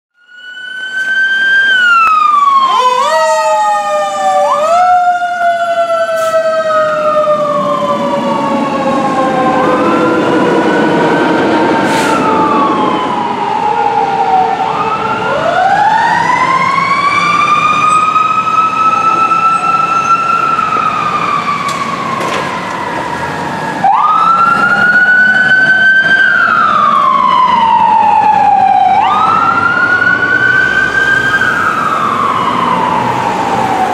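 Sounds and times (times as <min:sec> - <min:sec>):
sirens wailing: 0:00.2 - 0:33.9
truck engines rumbling: 0:00.4 - 0:33.9.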